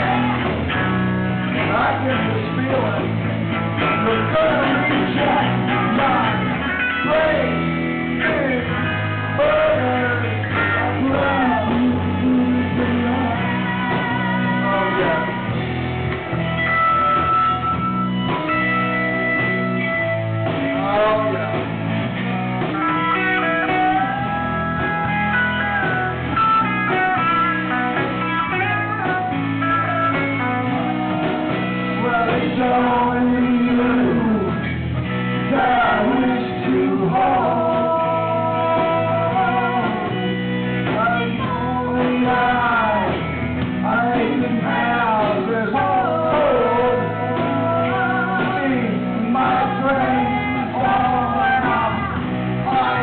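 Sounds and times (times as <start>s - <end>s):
lead singer singing: 0.0s - 53.0s
live blues-rock band: 0.0s - 53.0s.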